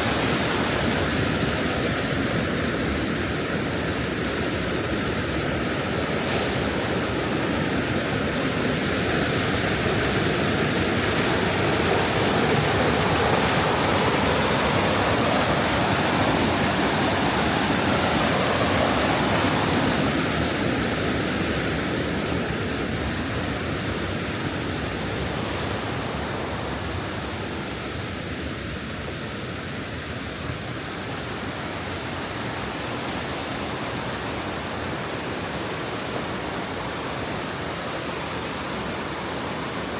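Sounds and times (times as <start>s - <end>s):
mountain stream and waterfalls rushing: 0.0s - 39.9s.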